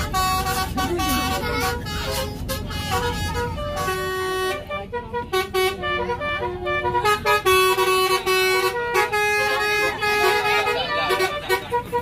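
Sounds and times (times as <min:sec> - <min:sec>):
musical air horn playing tune: 0:00.0 - 0:12.0.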